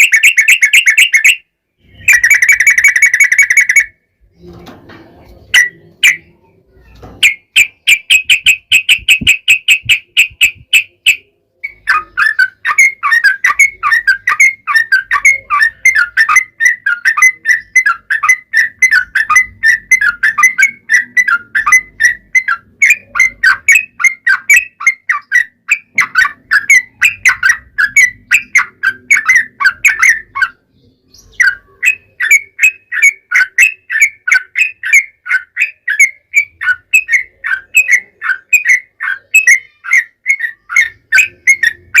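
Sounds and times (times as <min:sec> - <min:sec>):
bird singing rapid notes: 0:00.0 - 0:04.6, 0:05.4 - 0:42.0.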